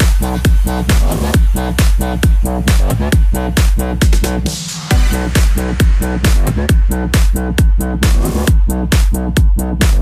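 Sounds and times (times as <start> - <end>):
electro house dance music: 0.0 - 10.0
heavy kick drum: 0.0 - 10.0.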